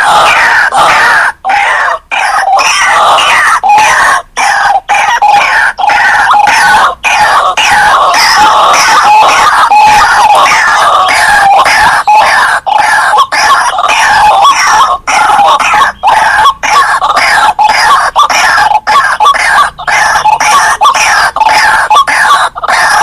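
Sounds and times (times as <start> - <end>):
waterhen calling harshly: 0.0 - 23.0.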